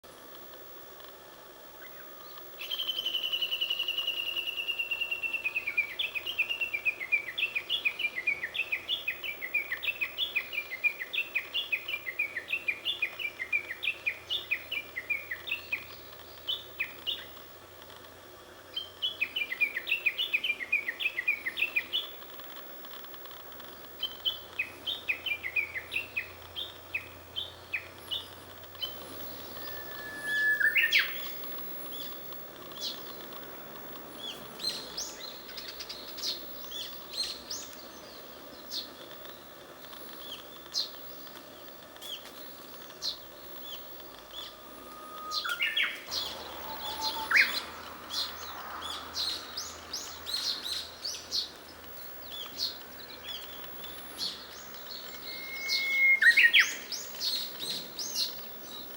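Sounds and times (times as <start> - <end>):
warbler whistling song: 1.8 - 17.6, 18.7 - 22.3, 24.0 - 58.9
small birds chirping: 1.8 - 58.9.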